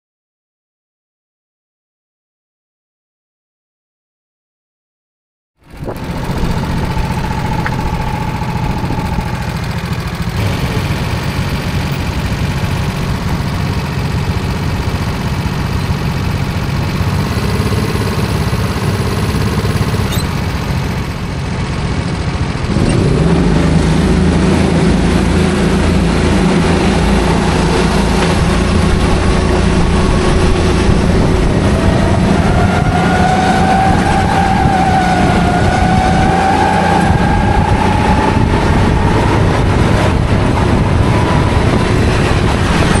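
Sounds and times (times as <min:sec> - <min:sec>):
go-kart engines running: 0:05.6 - 0:43.0.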